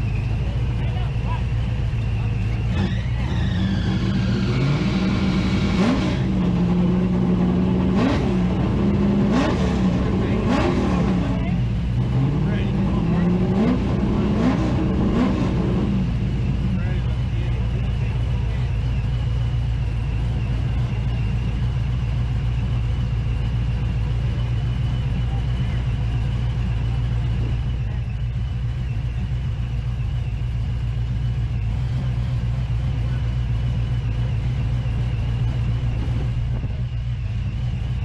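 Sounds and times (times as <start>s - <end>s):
engines idling: 0.0s - 38.0s.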